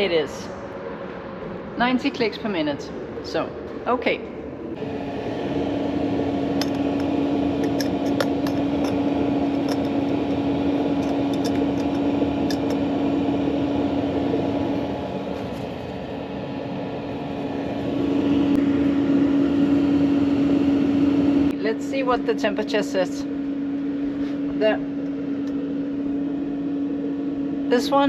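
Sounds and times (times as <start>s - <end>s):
heater fan hum: 0.0s - 28.0s.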